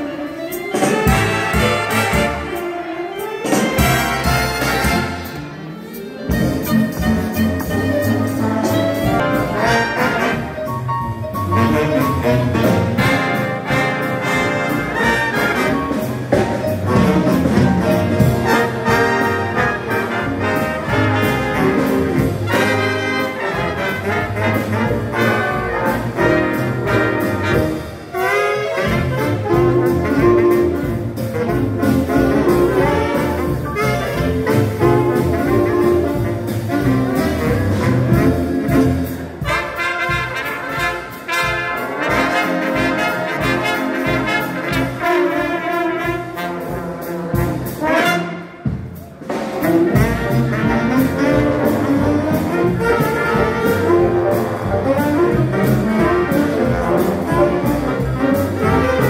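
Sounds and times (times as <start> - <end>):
big band playing jazz: 0.0 - 59.0.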